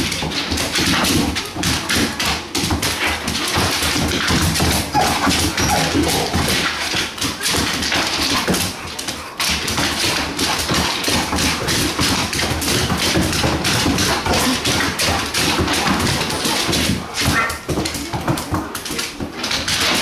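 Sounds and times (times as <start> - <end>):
dog claws clicking on wooden floor: 0.0 - 20.0
dog paws thudding: 0.0 - 20.0.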